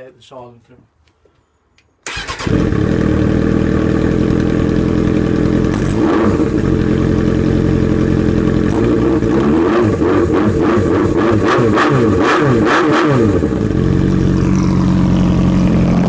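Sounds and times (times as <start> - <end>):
motorcycle engine revving: 2.1 - 16.0.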